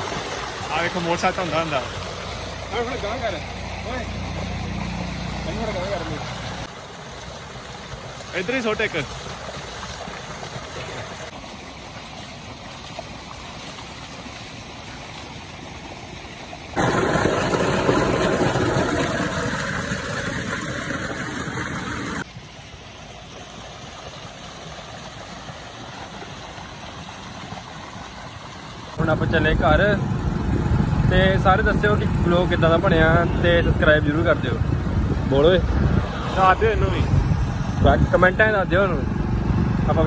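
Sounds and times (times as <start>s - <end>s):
water gushing into a tank: 0.0s - 39.2s.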